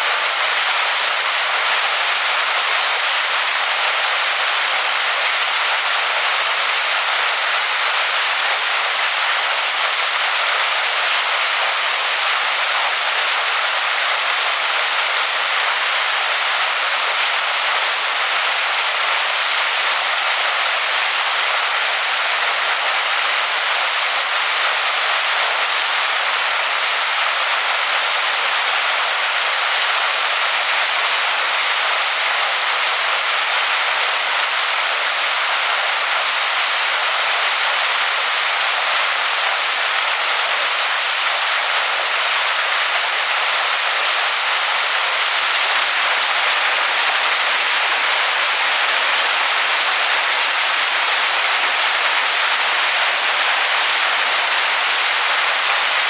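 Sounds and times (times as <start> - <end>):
waterfall pouring onto rocks: 0.0 - 56.0.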